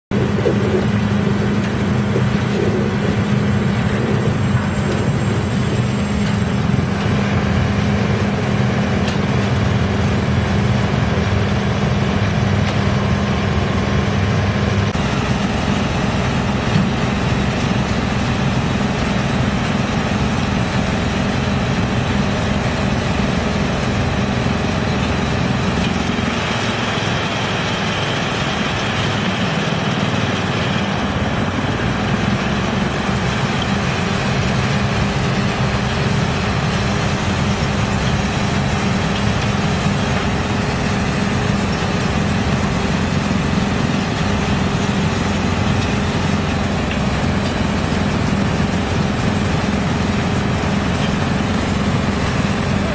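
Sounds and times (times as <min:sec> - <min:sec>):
excavator engine: 0:00.0 - 0:52.9
wood chipper drone: 0:00.0 - 0:52.9.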